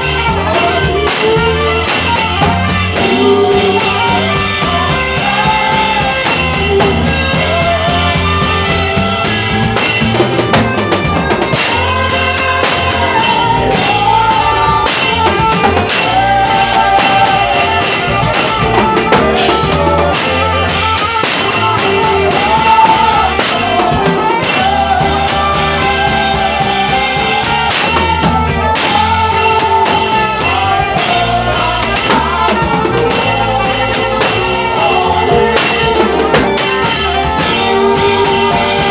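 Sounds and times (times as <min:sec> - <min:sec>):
drum kit and bass: 0:00.0 - 0:38.9
saxophone melody: 0:00.0 - 0:38.9.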